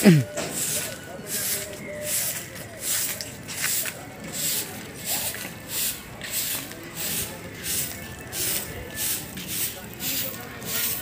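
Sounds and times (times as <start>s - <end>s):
broom sweeping dirt: 0.3s - 11.0s.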